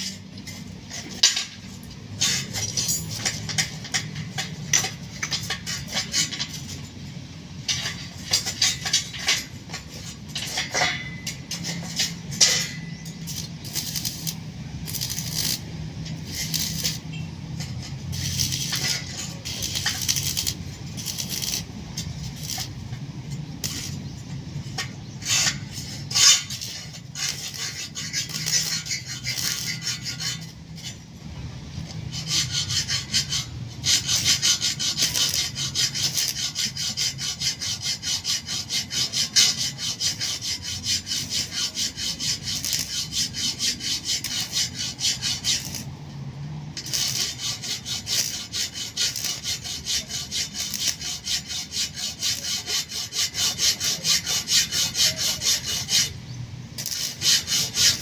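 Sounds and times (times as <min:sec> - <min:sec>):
hand tool scraping hard surface: 0:07.7 - 0:22.8, 0:23.6 - 0:31.0, 0:32.1 - 0:45.9, 0:46.8 - 0:56.2, 0:56.8 - 0:58.0.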